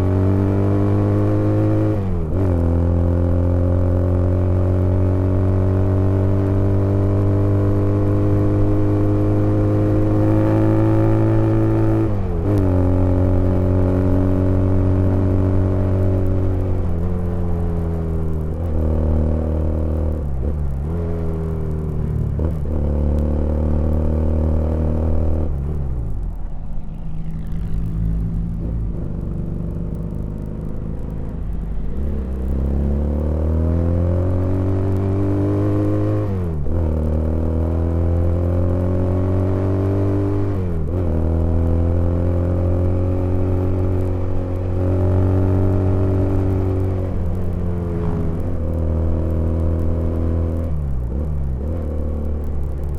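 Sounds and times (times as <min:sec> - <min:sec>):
motorcycle engine revving through gears: 0:00.0 - 0:52.9.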